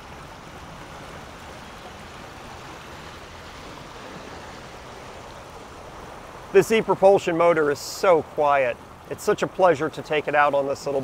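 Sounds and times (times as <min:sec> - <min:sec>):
water rushing around a boat: 0:00.0 - 0:11.0.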